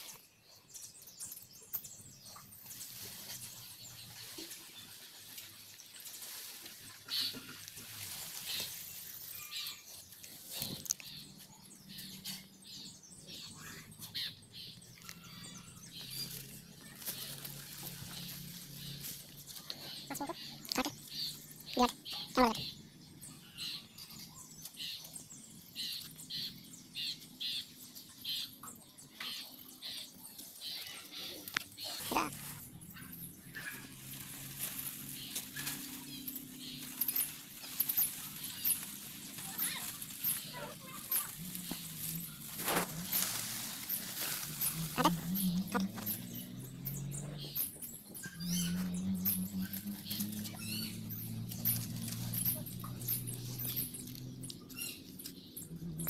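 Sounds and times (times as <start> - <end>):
birds chirping faintly: 0.0 - 56.0.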